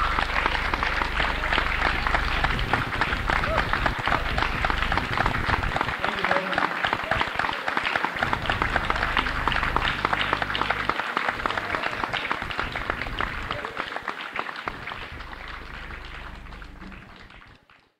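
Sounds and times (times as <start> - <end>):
audience applauding: 0.0 - 17.9.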